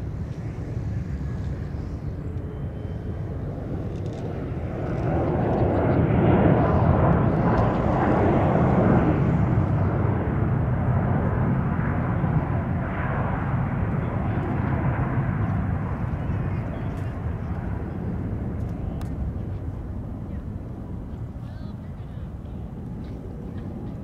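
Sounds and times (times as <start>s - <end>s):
jet engine rush: 0.0s - 24.0s.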